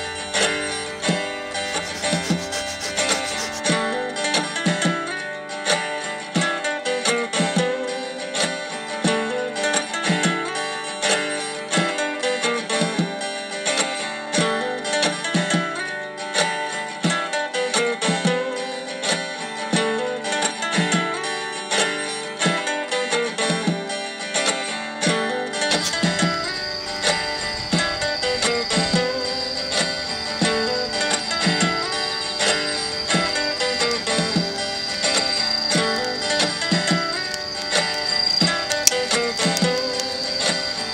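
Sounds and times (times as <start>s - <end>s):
acoustic guitar plucked and strummed: 0.0s - 40.9s.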